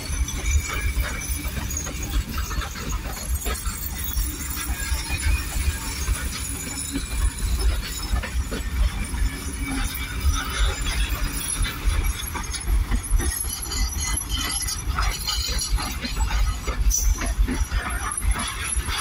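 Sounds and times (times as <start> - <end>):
train carriages rolling on rails: 0.0 - 19.0.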